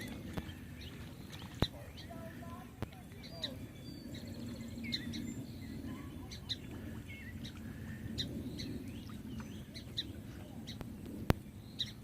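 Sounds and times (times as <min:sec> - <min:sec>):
birds chirping: 0:00.0 - 0:12.0
low background rumble: 0:00.0 - 0:12.0.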